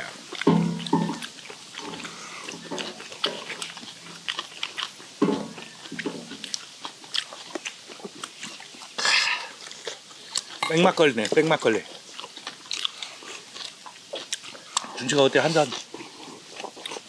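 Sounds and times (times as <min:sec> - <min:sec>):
wet chewing smacks: 0:00.0 - 0:17.0.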